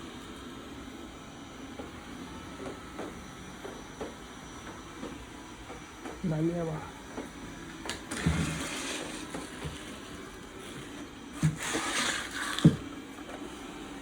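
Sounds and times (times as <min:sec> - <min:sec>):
robot vacuum humming: 0:00.0 - 0:14.0.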